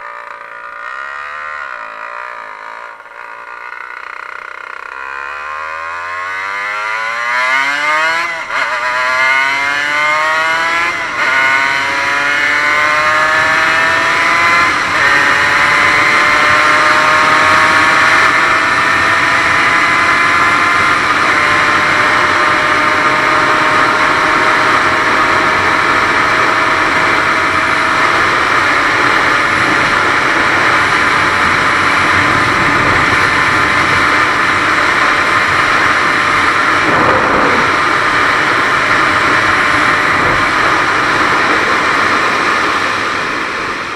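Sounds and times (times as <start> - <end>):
motorcycle engine accelerating: 0.0 - 43.9
rush of wind: 8.0 - 43.9.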